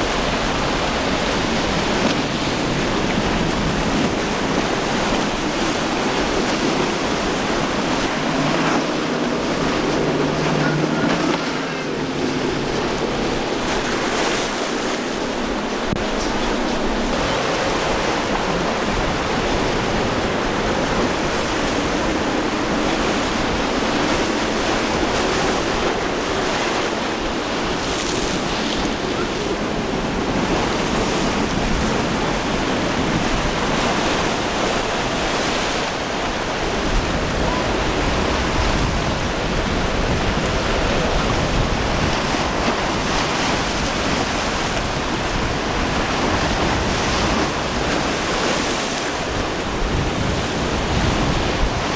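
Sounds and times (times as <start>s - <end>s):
waves breaking: 0.0s - 51.9s
wind buffeting microphone: 0.0s - 51.9s.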